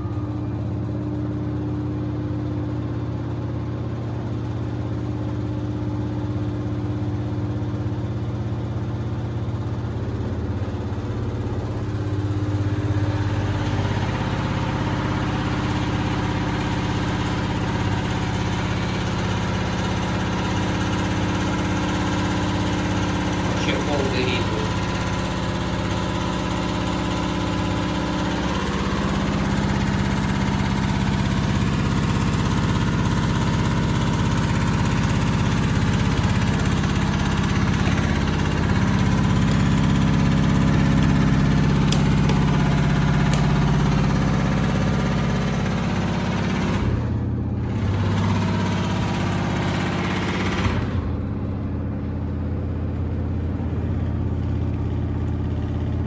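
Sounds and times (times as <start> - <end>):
washer-dryer motor hum: 0.0 - 56.0.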